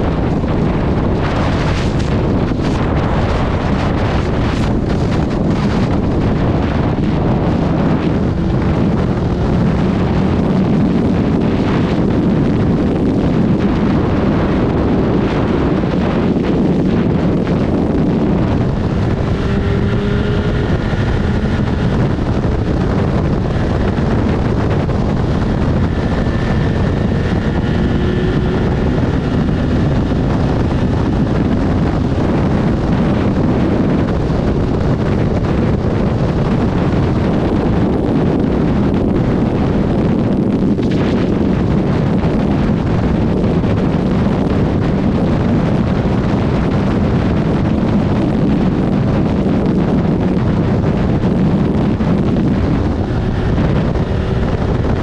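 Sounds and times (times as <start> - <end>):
motorcycle engine: 0.0 - 55.0
road noise: 0.0 - 55.0
wind rush over microphone: 0.0 - 55.0.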